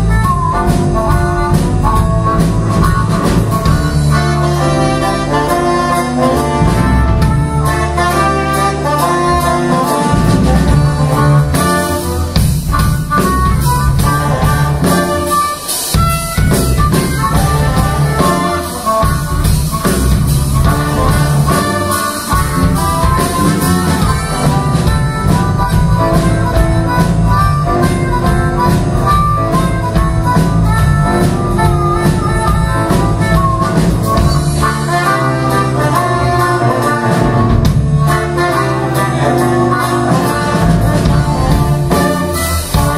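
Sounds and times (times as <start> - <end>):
drum beat: 0.0 - 42.9
harmonica: 0.0 - 42.9
trumpet and saxophones: 0.0 - 42.9.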